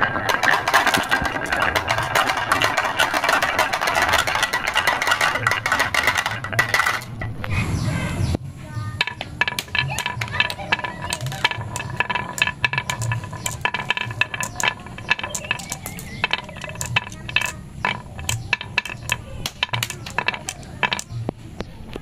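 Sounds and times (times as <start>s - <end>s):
marbles clattering down wooden tracks: 0.0s - 7.3s, 9.0s - 21.3s.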